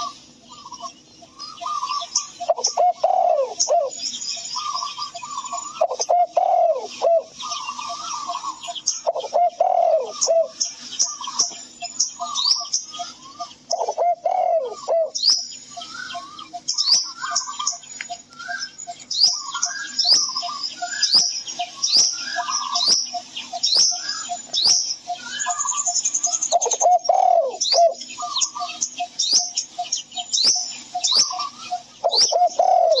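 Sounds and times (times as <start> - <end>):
high downward-sweeping bird chirps: 0.0 - 33.0
lower bird calls: 0.0 - 33.0.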